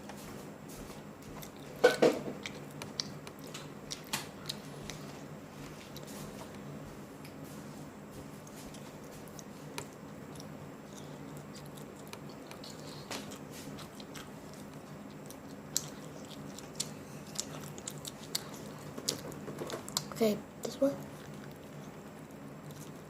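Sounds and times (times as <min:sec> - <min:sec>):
steady low hum: 0:00.0 - 0:23.0
person chewing food: 0:00.8 - 0:07.0, 0:08.1 - 0:20.2, 0:20.9 - 0:23.0.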